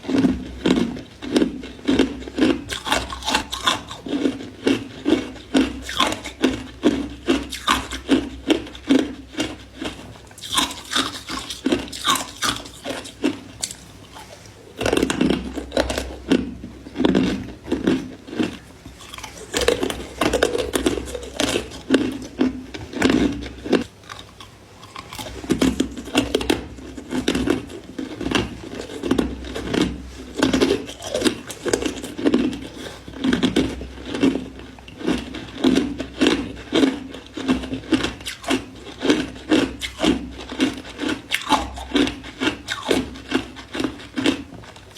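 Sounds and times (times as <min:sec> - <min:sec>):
ice crunching being chewed: 0:00.0 - 0:44.9.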